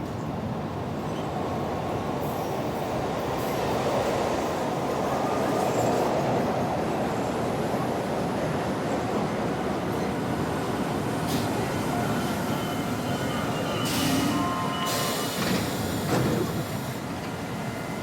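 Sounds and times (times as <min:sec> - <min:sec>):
subway train rumbling: 0:00.0 - 0:18.0.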